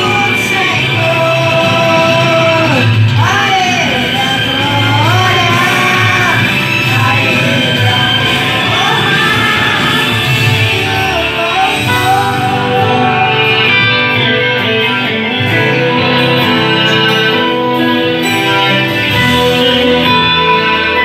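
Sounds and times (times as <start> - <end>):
gospel music with guitar: 0.0 - 21.0.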